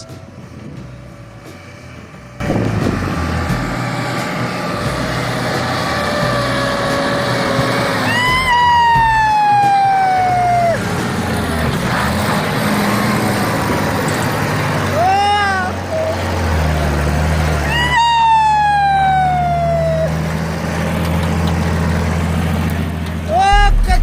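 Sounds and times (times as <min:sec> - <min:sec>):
heavy truck engine rumbling: 0:00.0 - 0:24.0.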